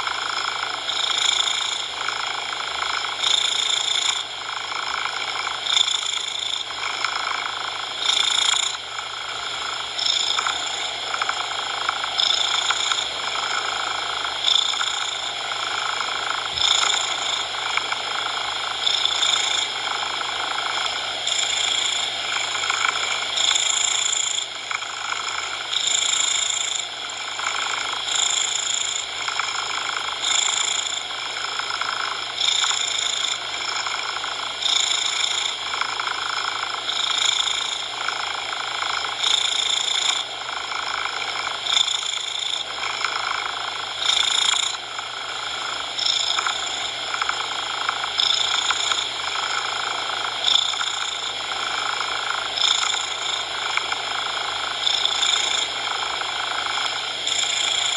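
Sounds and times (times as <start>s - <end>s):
cat purring: 0.0s - 57.9s
steady coloured noise: 0.0s - 57.9s.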